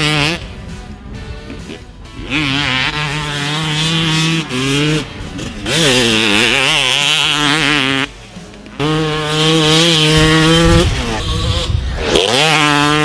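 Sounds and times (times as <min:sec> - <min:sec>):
motocross engine revving: 0:00.0 - 0:13.0.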